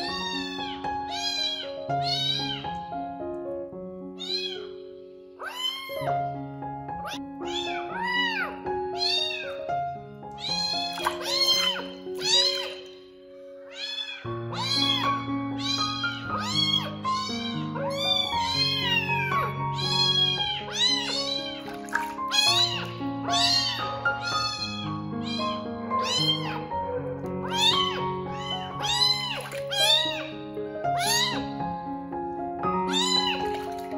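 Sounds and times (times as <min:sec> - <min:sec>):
kitten meowing: 0:00.0 - 0:02.8, 0:04.2 - 0:06.2, 0:07.0 - 0:09.6, 0:10.3 - 0:13.0, 0:13.6 - 0:30.4, 0:31.0 - 0:31.6, 0:32.9 - 0:33.9
background music: 0:00.0 - 0:33.9.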